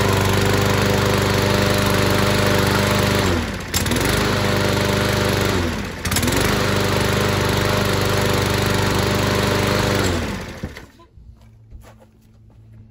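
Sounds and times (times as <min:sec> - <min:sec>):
lawn mower engine running: 0:00.0 - 0:10.9.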